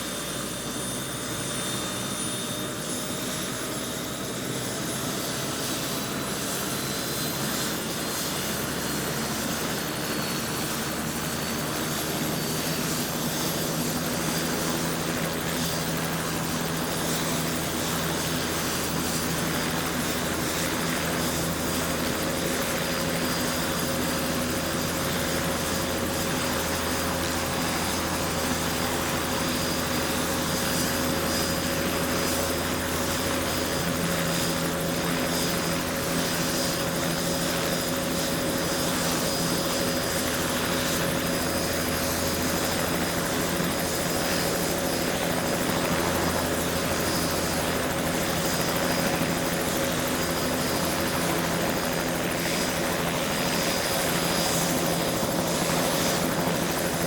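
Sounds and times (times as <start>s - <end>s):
helicopter running: 0.0s - 57.0s.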